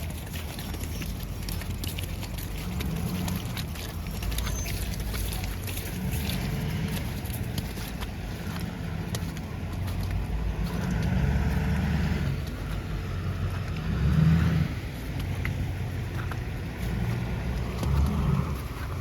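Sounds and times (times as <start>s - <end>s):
cars passing on slushy street: 0.0s - 19.0s.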